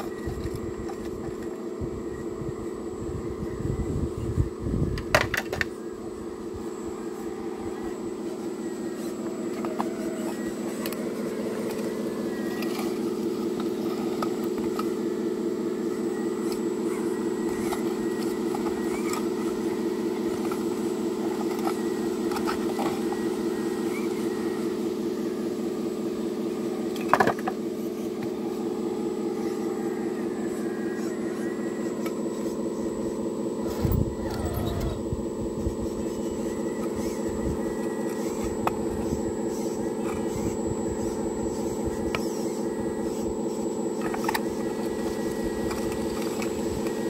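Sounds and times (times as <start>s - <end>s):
electric motors whirring: 0.0s - 47.0s.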